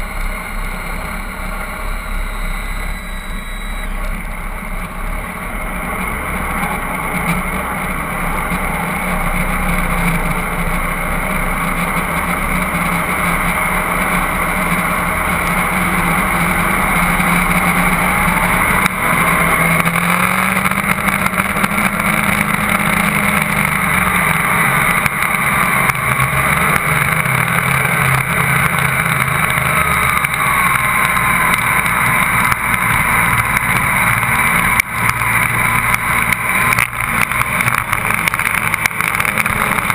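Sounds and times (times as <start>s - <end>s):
boat diesel engines running hard: 0.0s - 39.9s
wind: 0.0s - 39.9s.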